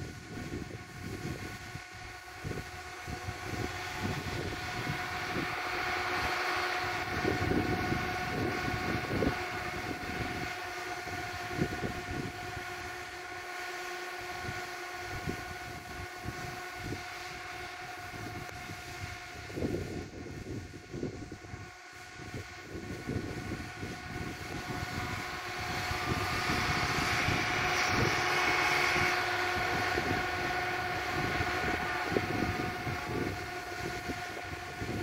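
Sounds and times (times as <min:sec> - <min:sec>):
car engine whining in snow: 0:00.0 - 0:20.0, 0:22.6 - 0:35.0.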